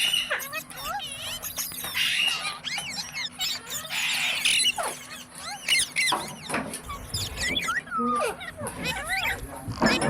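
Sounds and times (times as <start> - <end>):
parrot chirping and whistling: 0.0 - 10.0
parrot screeching: 0.0 - 10.0.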